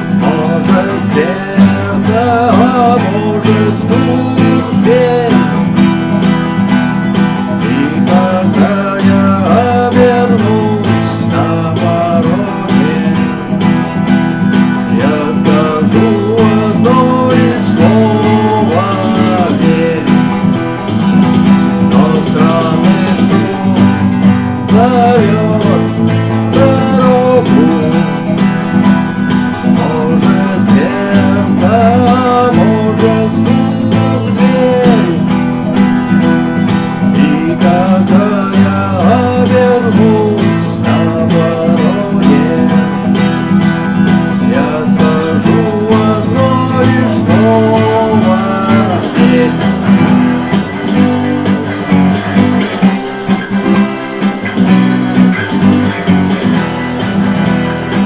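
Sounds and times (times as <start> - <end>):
instrumental rock music with guitar: 0.0 - 58.0.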